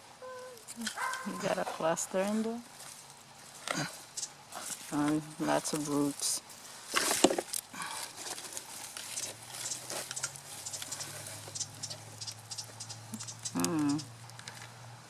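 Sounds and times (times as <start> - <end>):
low steady hum: 0.0 - 15.0
soil and roots crackling: 0.0 - 15.0.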